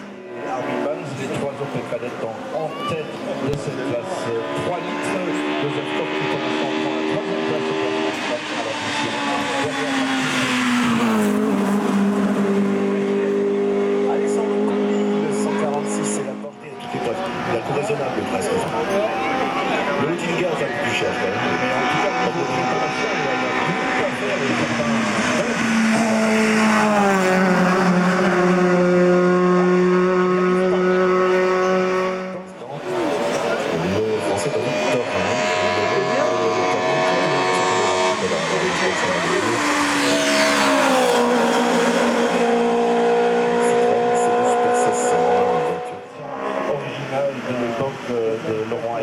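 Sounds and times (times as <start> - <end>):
racing car engine running hard: 0.0 - 49.0.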